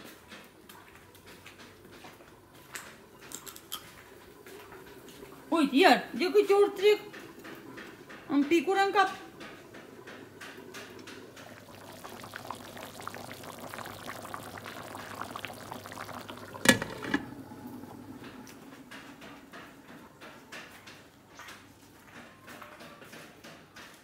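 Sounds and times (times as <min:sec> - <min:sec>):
stew bubbling in a pot: 0:00.1 - 0:23.9.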